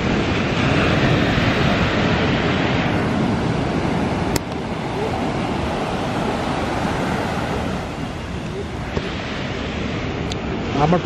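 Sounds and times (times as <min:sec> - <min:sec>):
waves washing up a beach: 0:00.0 - 0:11.0.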